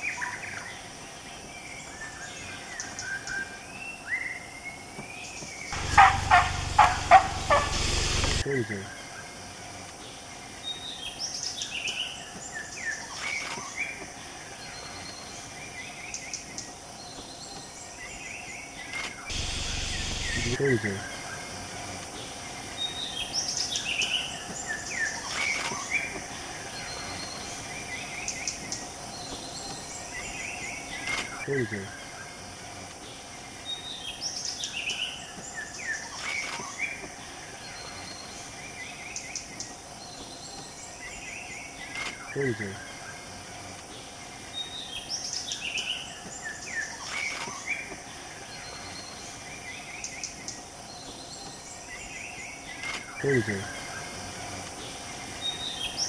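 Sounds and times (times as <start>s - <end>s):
birds chirping: 0.0s - 56.0s
high insect drone: 5.7s - 56.0s.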